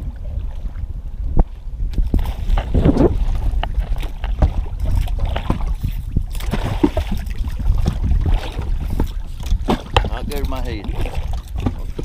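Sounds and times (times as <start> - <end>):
water splashing against boat: 0.0 - 12.0
wind rumble on microphone: 0.0 - 12.0.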